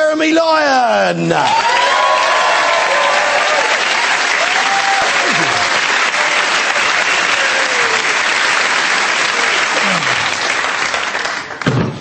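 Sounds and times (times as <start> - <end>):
audience applauding: 1.4 - 11.8.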